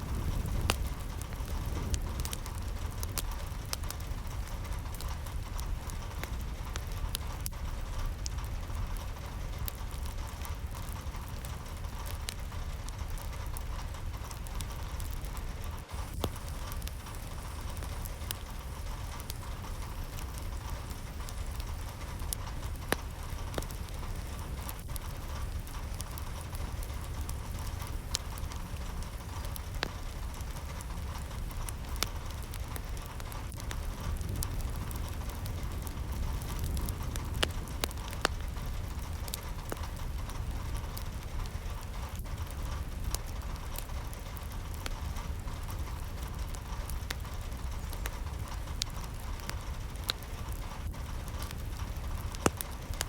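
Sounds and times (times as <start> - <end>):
constant low rumble: 0.0 - 53.0
raindrops ticking on a surface: 0.0 - 53.0.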